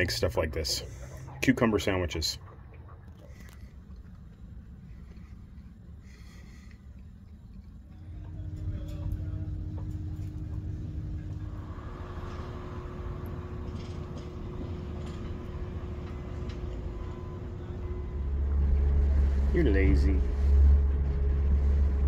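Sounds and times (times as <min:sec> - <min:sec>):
low engine rumble: 0:00.0 - 0:22.0
steady hum: 0:00.0 - 0:22.0.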